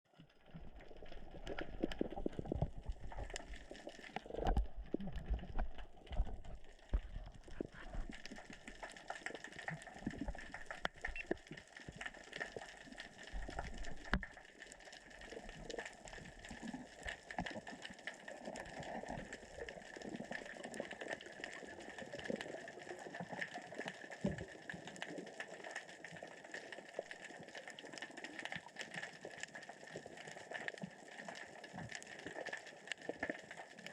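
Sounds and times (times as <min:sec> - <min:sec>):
underwater rocks crackling: 0:00.1 - 0:33.9.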